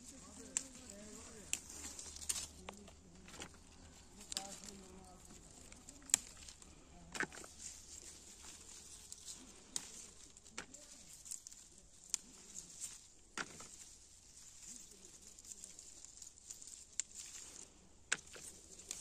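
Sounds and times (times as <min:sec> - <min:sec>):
quiet outdoor background: 0:00.0 - 0:19.0.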